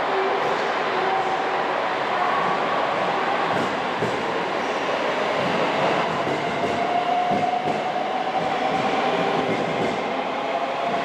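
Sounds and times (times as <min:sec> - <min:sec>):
train wheels rumbling on rail: 0:02.2 - 0:11.0.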